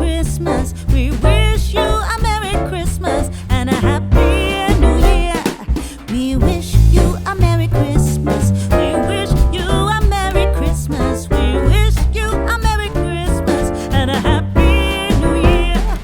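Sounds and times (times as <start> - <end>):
upbeat background music: 1.2 - 5.5, 6.4 - 16.0.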